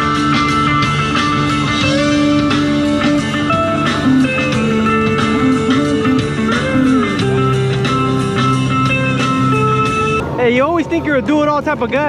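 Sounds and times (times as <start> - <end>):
steady beat: 0.0 - 10.2
electric guitar music: 0.0 - 10.4.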